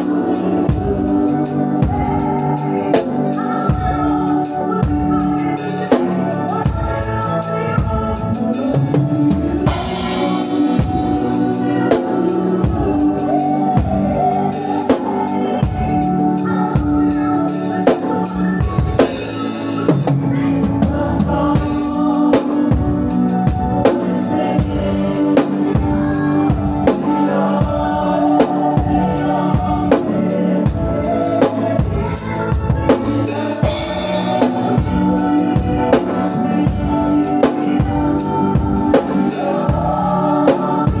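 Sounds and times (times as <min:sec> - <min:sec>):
drum kit beat: 0:00.0 - 0:41.0.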